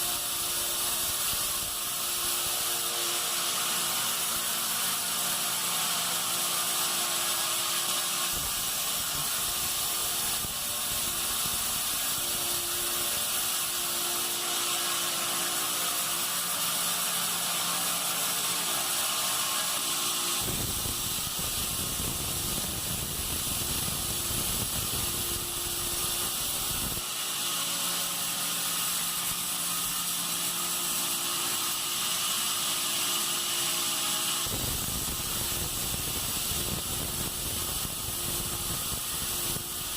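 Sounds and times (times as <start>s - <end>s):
saw blade hissing: 0.0s - 39.9s.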